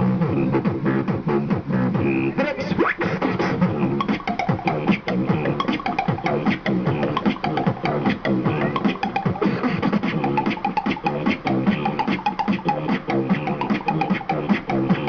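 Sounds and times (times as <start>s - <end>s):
beatboxing mouth percussion: 0.0s - 15.0s
hummed vocal tone: 0.0s - 15.0s
rising vocal glide: 0.0s - 15.0s.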